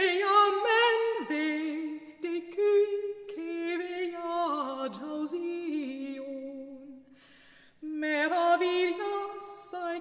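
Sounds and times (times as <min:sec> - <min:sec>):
woman singing unaccompanied: 0:00.0 - 0:07.0, 0:07.8 - 0:10.0.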